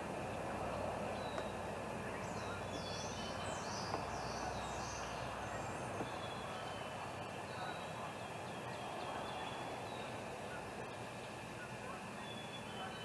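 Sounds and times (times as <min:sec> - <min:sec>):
background hiss: 0:00.0 - 0:13.0
songbird singing: 0:00.0 - 0:13.0.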